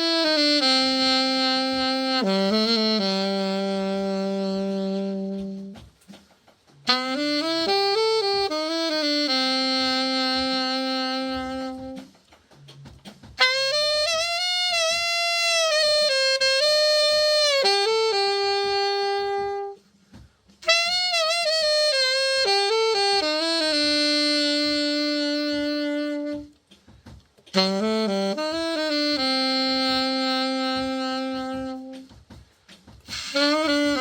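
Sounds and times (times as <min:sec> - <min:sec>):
alto saxophone slow melody: 0:00.0 - 0:12.3, 0:13.3 - 0:34.0.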